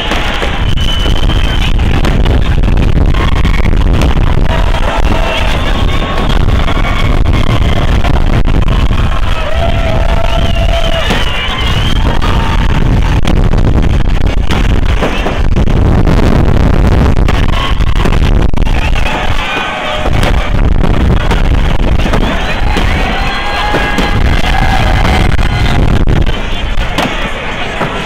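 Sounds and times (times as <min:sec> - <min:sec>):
loud music: 0:00.0 - 0:26.8
crowd whooping: 0:00.0 - 0:28.0
fireworks banging: 0:00.0 - 0:28.0.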